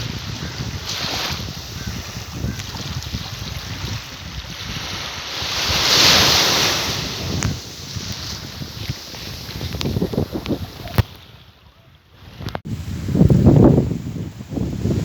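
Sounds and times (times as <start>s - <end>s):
waves washing in: 0.0s - 15.0s
wind buffeting microphone: 0.0s - 15.0s.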